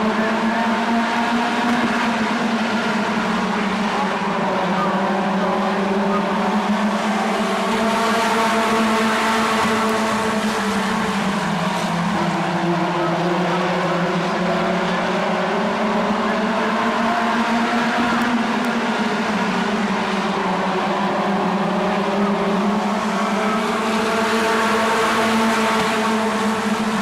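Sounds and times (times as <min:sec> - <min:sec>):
racing car engines droning: 0:00.0 - 0:27.0.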